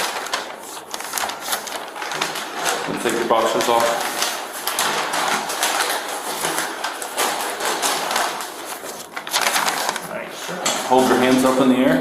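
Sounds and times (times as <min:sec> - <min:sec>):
clothing rustling: 0:00.0 - 0:11.3.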